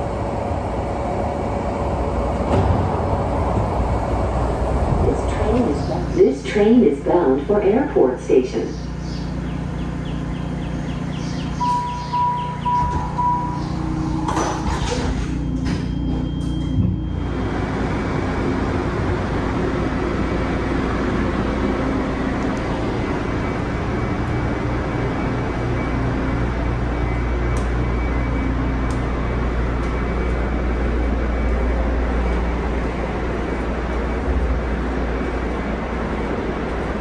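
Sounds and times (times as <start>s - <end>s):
rail car rumble: 0.0s - 37.0s.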